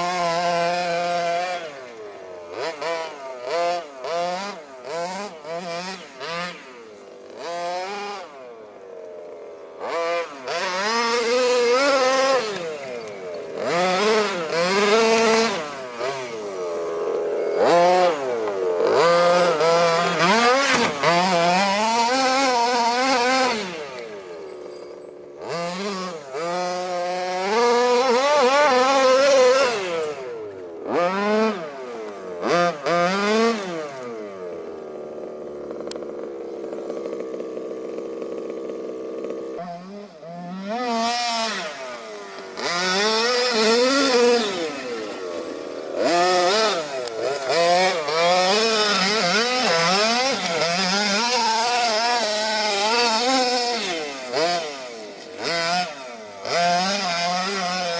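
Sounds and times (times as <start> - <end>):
rc car engine revving: 0.0 - 57.9.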